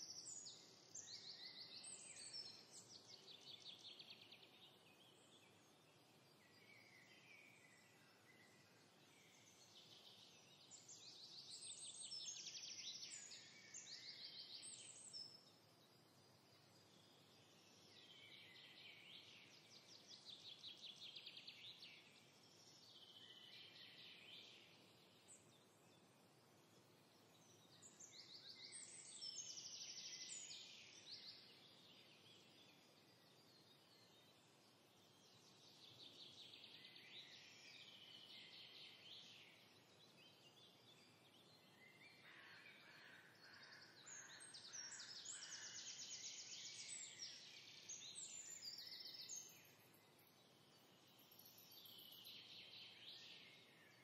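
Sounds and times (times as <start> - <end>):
faint trilled birdsong: 0.0 - 54.0.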